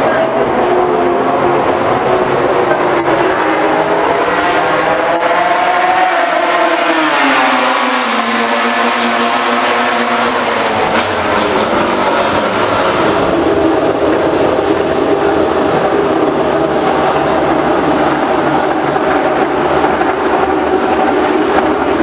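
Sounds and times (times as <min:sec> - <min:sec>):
racing motorcycle engines revving: 0:00.0 - 0:22.0.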